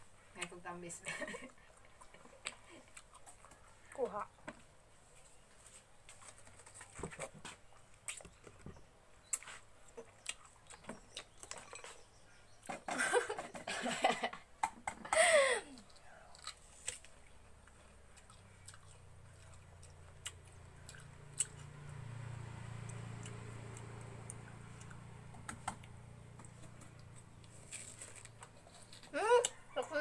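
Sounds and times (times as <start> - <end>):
person chewing soft fruit: 1.5 - 4.8, 5.6 - 12.8, 15.7 - 29.7.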